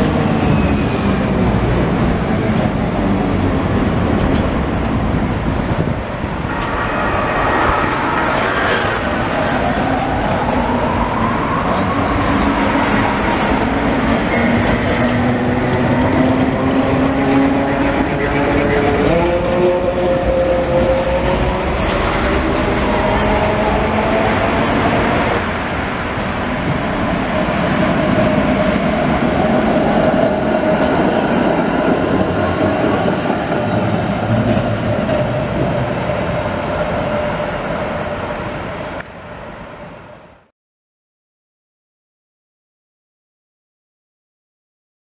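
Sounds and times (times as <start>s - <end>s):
trams rolling on rails: 0.0s - 40.4s.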